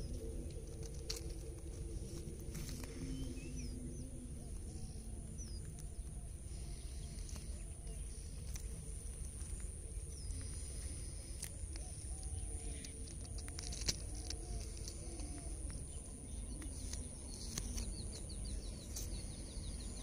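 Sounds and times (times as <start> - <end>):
low wind rumble: 0.0 - 20.0
soft low cooing calls: 0.0 - 20.0
steady high-pitched whine: 0.0 - 20.0.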